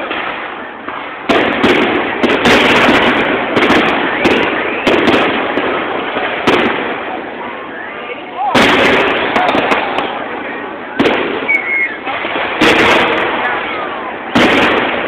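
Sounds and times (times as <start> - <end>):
firework shells bursting: 0.0 - 7.1, 8.5 - 15.0.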